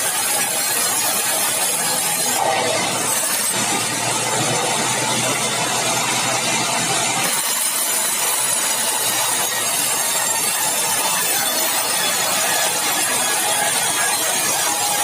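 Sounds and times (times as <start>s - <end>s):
saw cutting timber: 0.0s - 15.0s.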